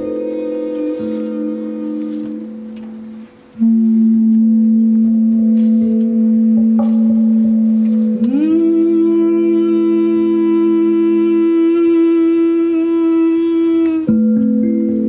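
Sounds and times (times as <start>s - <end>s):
sustained drone note: 0.0s - 15.0s.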